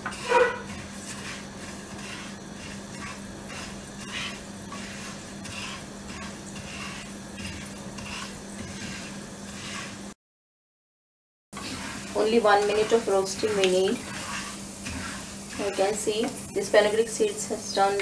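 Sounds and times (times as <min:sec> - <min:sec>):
seeds sizzling in hot oil: 0:00.0 - 0:10.2, 0:11.6 - 0:18.0
steady low hum: 0:00.0 - 0:10.2, 0:11.6 - 0:18.0
wooden spatula scraping pan: 0:00.0 - 0:10.2, 0:11.6 - 0:18.0.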